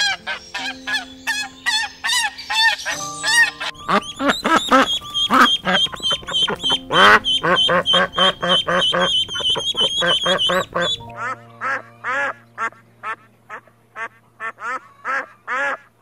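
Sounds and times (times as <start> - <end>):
steady high tone: 0.0 - 14.4
birds calling: 0.0 - 16.0.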